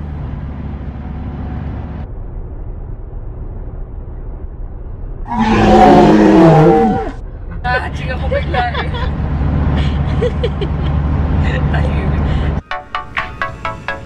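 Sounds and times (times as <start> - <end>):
van cabin road rumble: 0.0 - 14.0.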